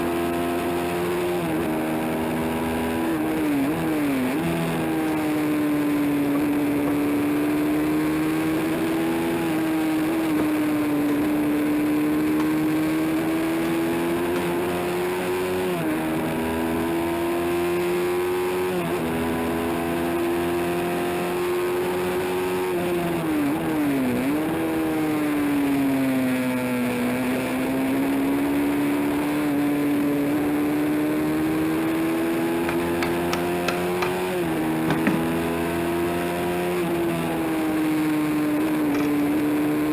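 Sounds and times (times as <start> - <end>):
race engine running at high revs: 0.0 - 39.9.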